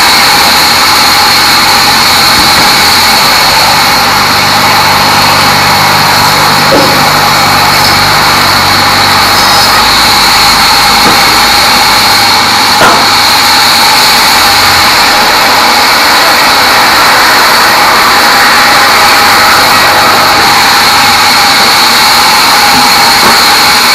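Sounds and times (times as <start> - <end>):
band saw running with whine: 0.0 - 23.9.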